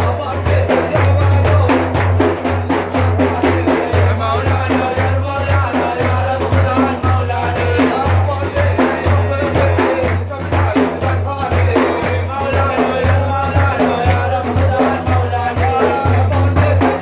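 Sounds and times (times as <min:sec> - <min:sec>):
drums beating: 0:00.0 - 0:17.0
person singing: 0:00.0 - 0:17.0.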